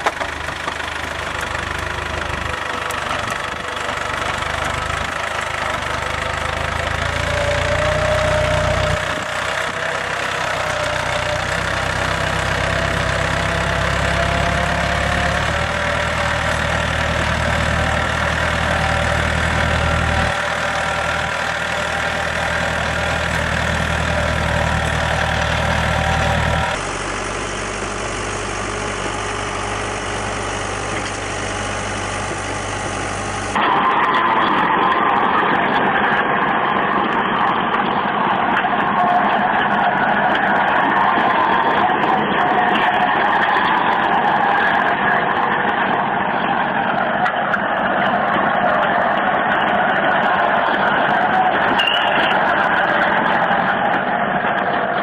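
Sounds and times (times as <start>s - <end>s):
steady whine: 0.0s - 54.7s
tractor engine running under load: 0.0s - 55.0s.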